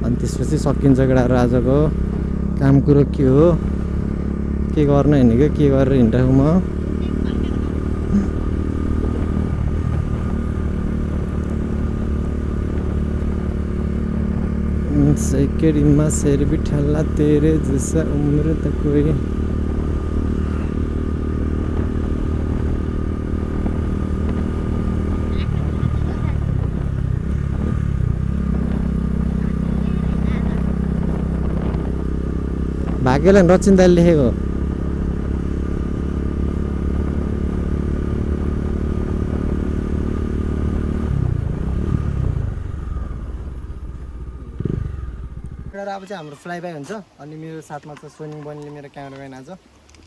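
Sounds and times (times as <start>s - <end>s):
vehicle engine droning: 0.0s - 47.2s.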